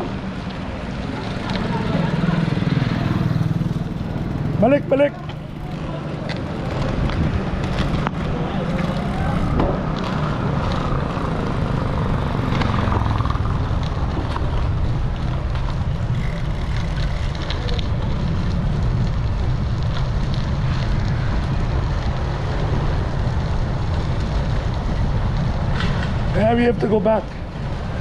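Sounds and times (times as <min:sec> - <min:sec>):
faint road noise: 0:00.0 - 0:28.0
wind buffeting microphone: 0:05.4 - 0:28.0.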